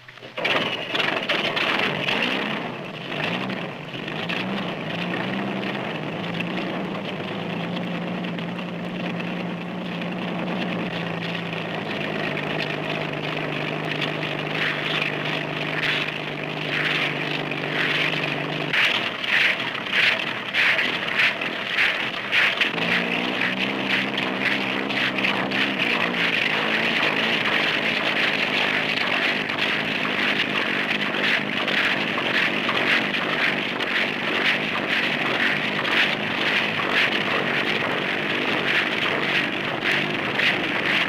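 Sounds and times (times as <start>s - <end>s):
flying machine engine running: 0.4s - 41.0s
rhythmic propeller beat: 1.0s - 41.0s.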